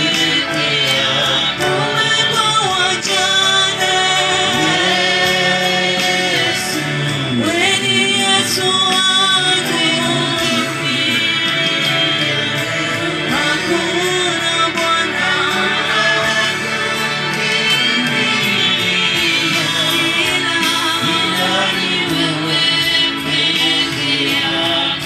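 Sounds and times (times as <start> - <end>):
gospel choir singing: 0.0 - 25.0
instrumental accompaniment: 0.0 - 25.0.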